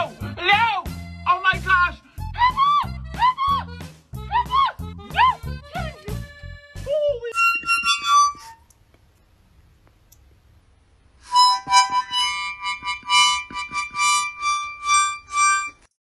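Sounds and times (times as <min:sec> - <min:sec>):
harmonica notes: 0:00.0 - 0:08.7, 0:11.2 - 0:15.9.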